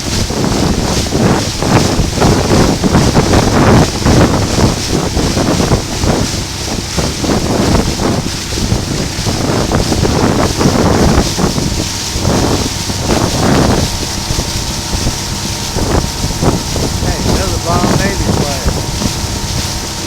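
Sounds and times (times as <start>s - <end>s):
water rushing along boat hull: 0.0s - 20.0s
wind buffeting microphone: 0.0s - 20.0s.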